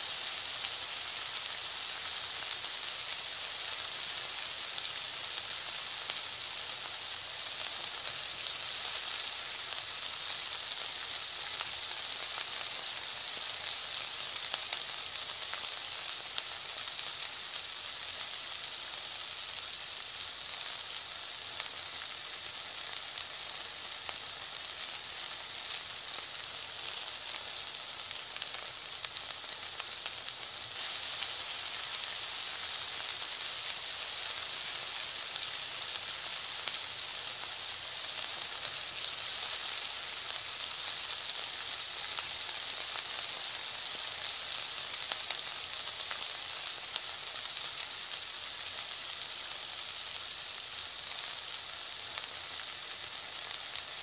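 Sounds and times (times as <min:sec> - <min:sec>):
food sizzling in frying pan: 0:00.0 - 0:54.0.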